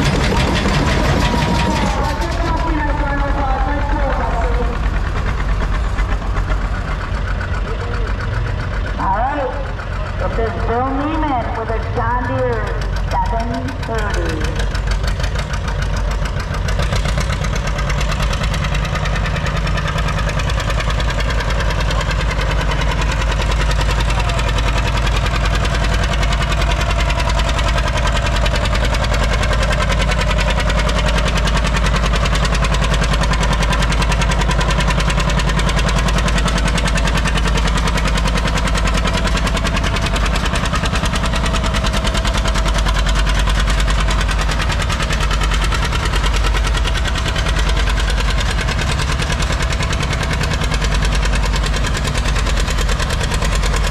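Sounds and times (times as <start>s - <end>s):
tractor engine pulsing exhaust: 0.0s - 53.9s.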